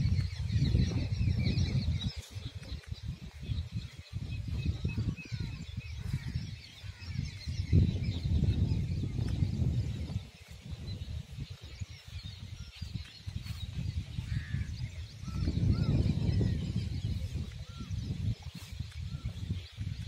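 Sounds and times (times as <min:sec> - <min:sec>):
small birds chirping: 0:00.0 - 0:20.0
wind buffeting microphone: 0:00.0 - 0:20.0.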